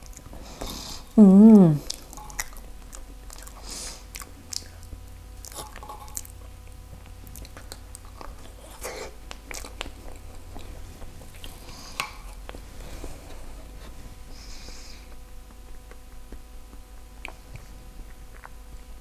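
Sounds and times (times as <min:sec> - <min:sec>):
chewing soft food: 0:00.0 - 0:01.2, 0:01.8 - 0:19.0.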